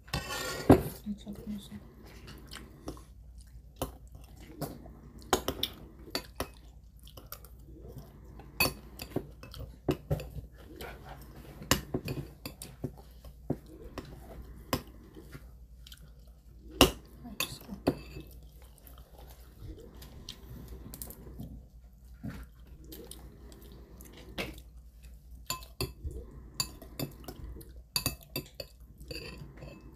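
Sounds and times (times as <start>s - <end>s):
chewing: 2.0s - 17.2s, 18.1s - 29.9s.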